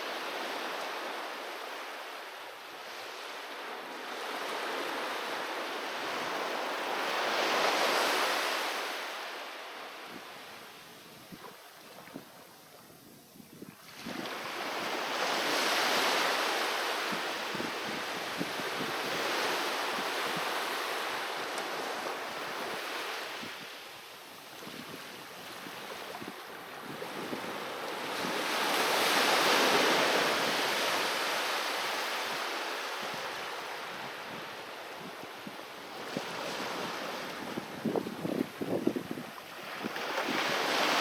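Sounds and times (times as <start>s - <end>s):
sea waves breaking on shore: 0.0s - 12.7s, 13.8s - 41.0s.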